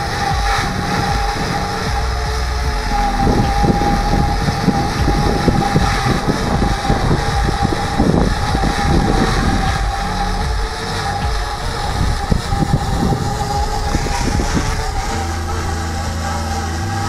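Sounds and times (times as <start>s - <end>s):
drone motors humming: 0.0s - 17.0s
wind buffeting microphone: 0.0s - 17.0s.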